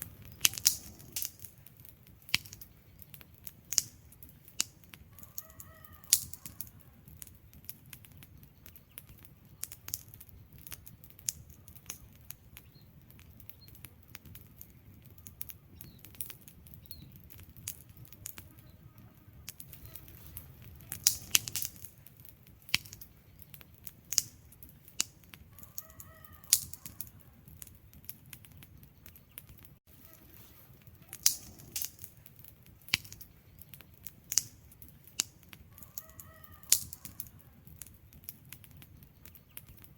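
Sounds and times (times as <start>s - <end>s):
low rumble of flame: 0.0s - 39.9s
wood logs crackling: 0.0s - 39.9s.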